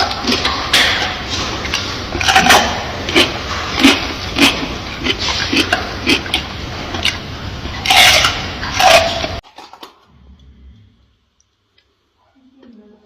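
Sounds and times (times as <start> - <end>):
gorilla chewing and crunching food: 0.0 - 10.6.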